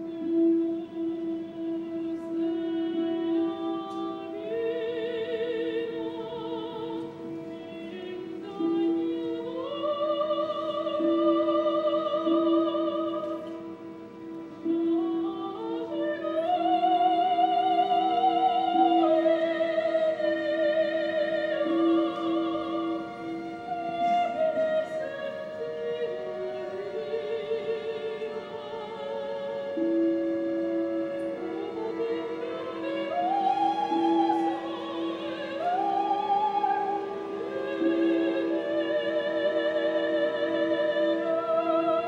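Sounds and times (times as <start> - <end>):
opera singer with wide vibrato: 0.0 - 42.0.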